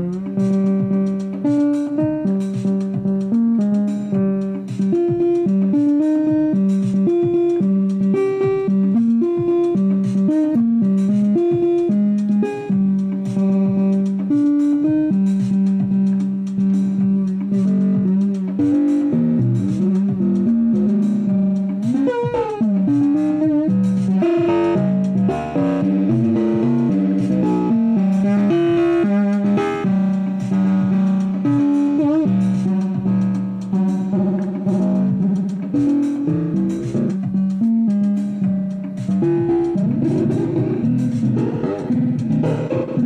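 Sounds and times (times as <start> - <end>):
instrumental melody with pitch slides: 0.0 - 43.0.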